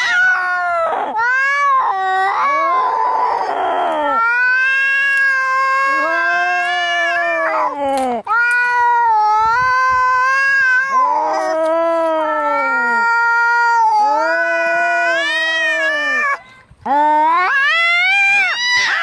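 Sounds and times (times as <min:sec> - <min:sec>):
cats yowling in a fight: 0:00.0 - 0:16.4, 0:17.3 - 0:19.0.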